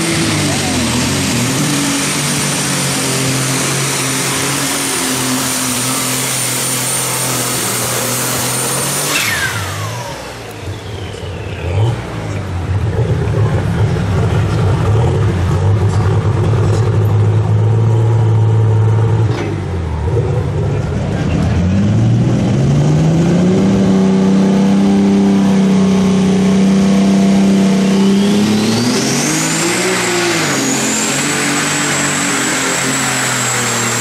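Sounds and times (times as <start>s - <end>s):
diesel engine at full power: 0.0s - 34.0s
high turbo whine: 0.0s - 34.0s.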